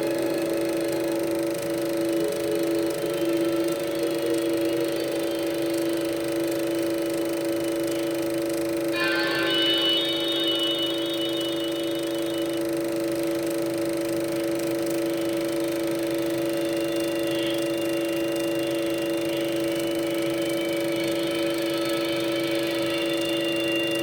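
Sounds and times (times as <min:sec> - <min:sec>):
electronic drone: 0:00.0 - 0:24.0.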